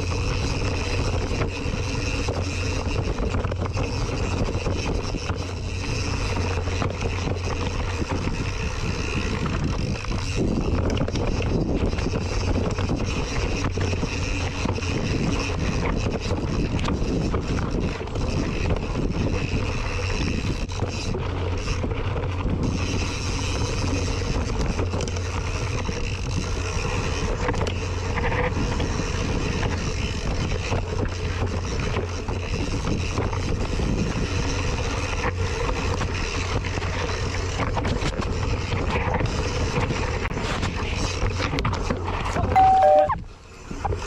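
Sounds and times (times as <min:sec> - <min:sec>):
bike clicks and rattles: 0:00.0 - 0:42.4
wind buffeting microphone: 0:00.0 - 0:42.6.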